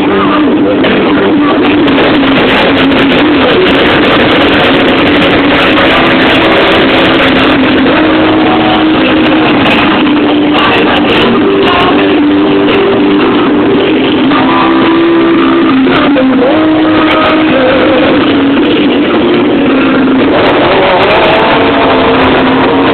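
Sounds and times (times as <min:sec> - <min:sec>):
loud rock music: 0:00.0 - 0:22.9
motorcycle engines running: 0:00.0 - 0:22.9.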